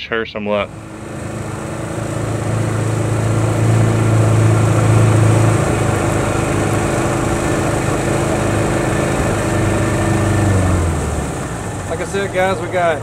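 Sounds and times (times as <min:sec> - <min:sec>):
outboard motor running: 0:00.6 - 0:13.0.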